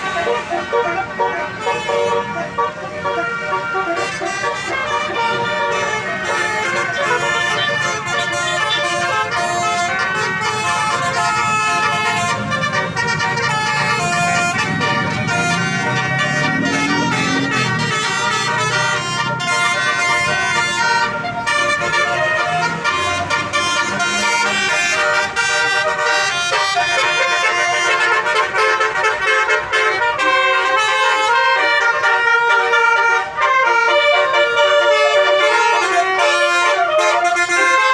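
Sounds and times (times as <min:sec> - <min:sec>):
musical air horn playing a tune: 0:00.0 - 0:37.9.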